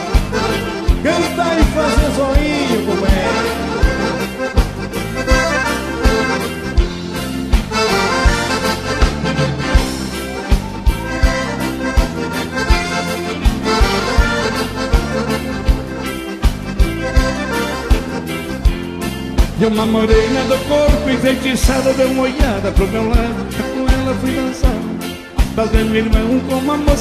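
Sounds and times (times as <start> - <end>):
accordion playing dance tune: 0.0 - 27.0
bass and drums beat: 0.0 - 27.0.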